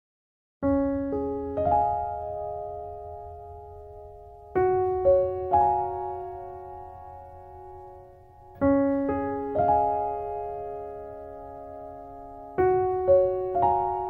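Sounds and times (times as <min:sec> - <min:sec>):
slow gentle piano music: 0:00.6 - 0:14.0.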